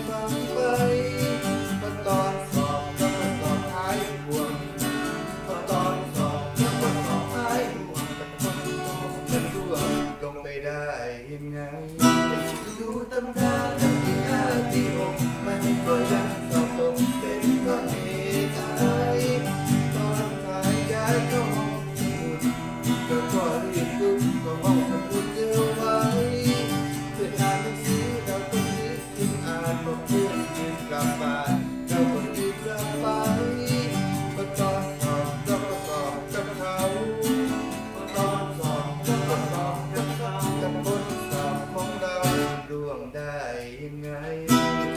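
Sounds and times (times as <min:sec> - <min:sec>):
man singing: 0:00.0 - 0:44.9
strummed acoustic guitars: 0:00.0 - 0:44.9.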